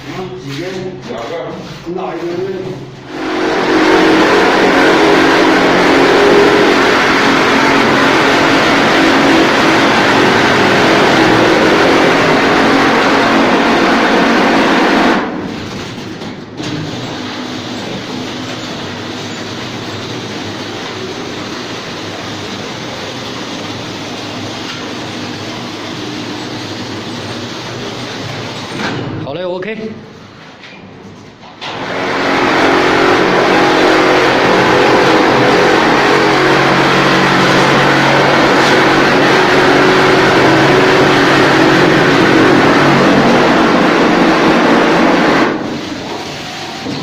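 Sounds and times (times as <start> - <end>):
plastering machine droning: 0.0 - 29.2, 31.6 - 47.0.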